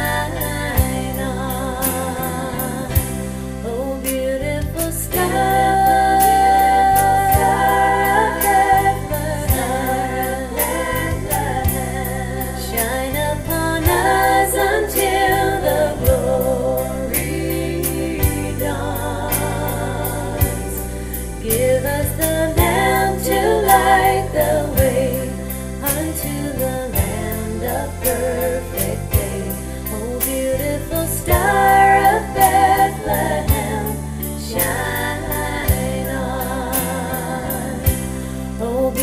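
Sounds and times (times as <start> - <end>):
bass line: 0.0 - 39.0
gospel-style christmas music: 0.0 - 39.0.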